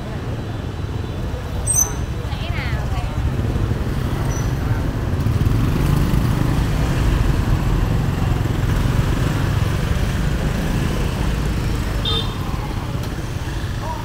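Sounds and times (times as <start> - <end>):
road noise: 0.0 - 14.0
scooter engines passing: 0.0 - 14.0.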